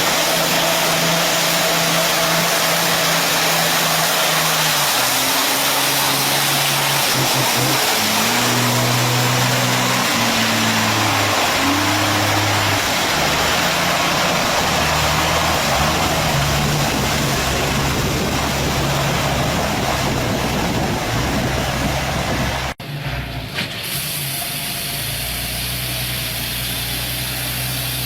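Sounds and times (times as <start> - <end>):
dump truck engine running: 0.0 - 28.0.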